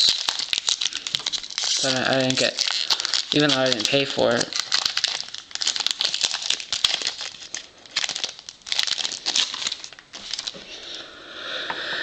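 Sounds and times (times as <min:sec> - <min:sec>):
foil wrapper crinkling: 0:00.0 - 0:10.6.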